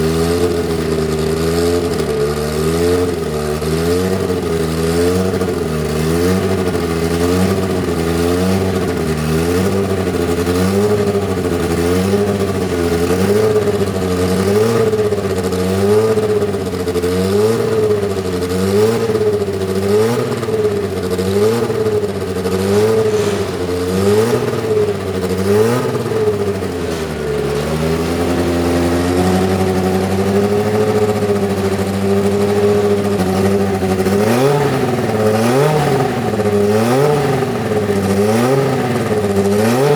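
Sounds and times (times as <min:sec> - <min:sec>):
turbocharged engine revving: 0:00.0 - 0:39.9.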